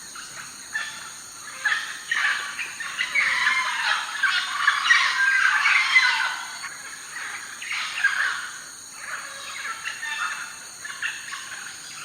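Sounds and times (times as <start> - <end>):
many birds calling: 0.0 - 12.0.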